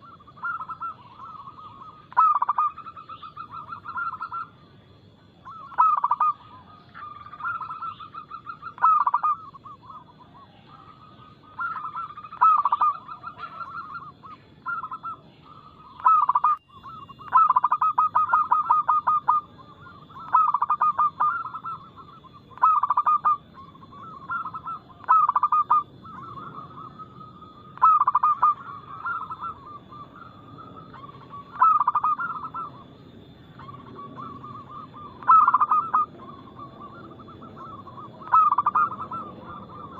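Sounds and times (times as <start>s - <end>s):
doves cooing: 0.0s - 39.9s
faint steady high tone: 0.0s - 39.9s.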